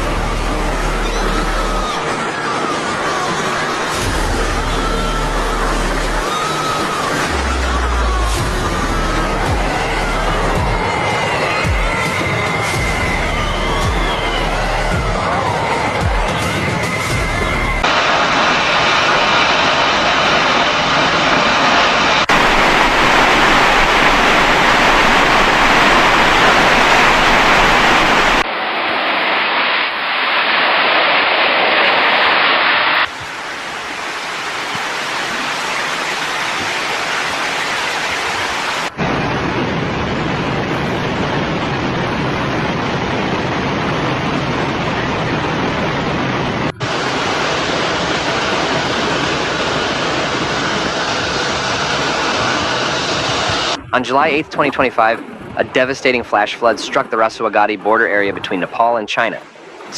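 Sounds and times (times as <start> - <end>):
rushing floodwater: 0.0 - 14.4, 15.2 - 28.5, 32.6 - 59.9.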